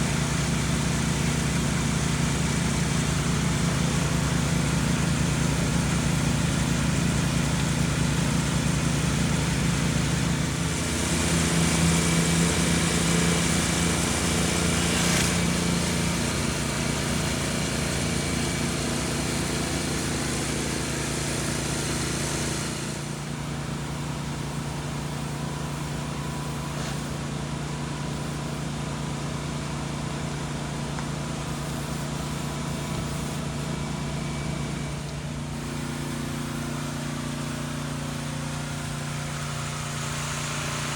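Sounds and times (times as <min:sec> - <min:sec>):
small petrol engine running: 0:00.0 - 0:40.9.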